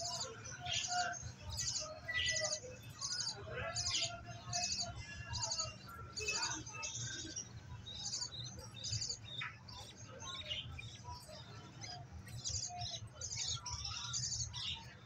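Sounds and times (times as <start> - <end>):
chicks begging chirps: 0.0 - 15.0.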